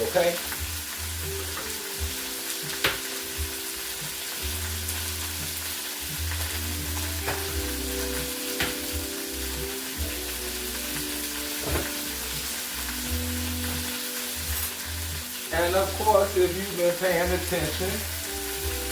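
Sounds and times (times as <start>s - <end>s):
background music with low bass: 0.0s - 18.9s
food sizzling in a frying pan: 0.0s - 18.9s.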